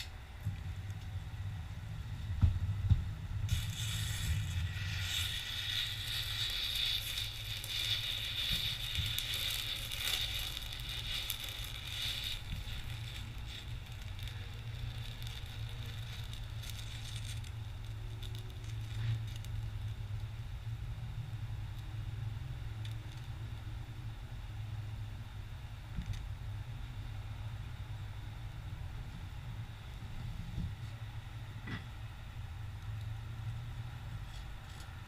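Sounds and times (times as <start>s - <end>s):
steady low rumble: 0.0s - 35.0s
thermite burning with hissing crackle: 0.0s - 35.0s.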